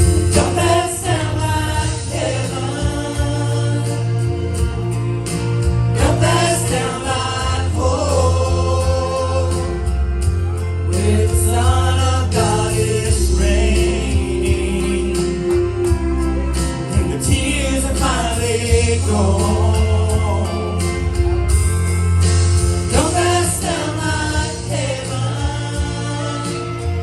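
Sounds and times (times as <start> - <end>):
gospel singing with band: 0.0 - 27.0.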